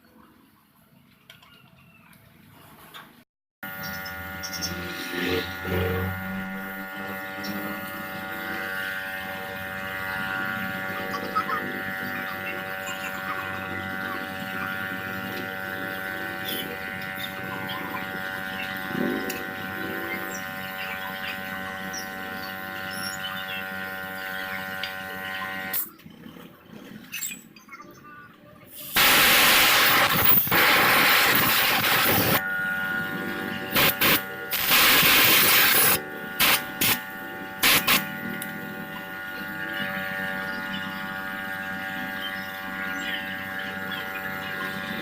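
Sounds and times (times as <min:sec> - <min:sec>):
steady multi-tone hum: 0:03.6 - 0:45.0.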